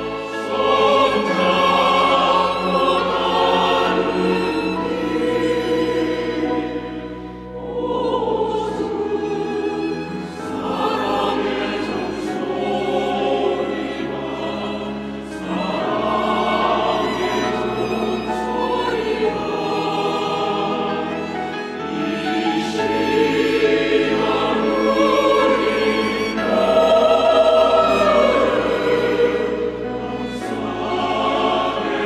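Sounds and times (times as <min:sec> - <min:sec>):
church choir singing: 0:00.0 - 0:32.0.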